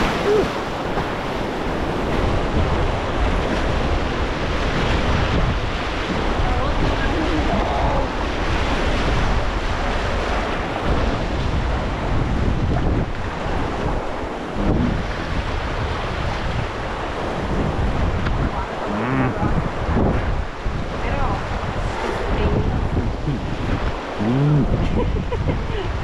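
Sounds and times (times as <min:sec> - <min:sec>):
river water rushing: 0:00.0 - 0:26.0
wind buffeting microphone: 0:00.0 - 0:26.0.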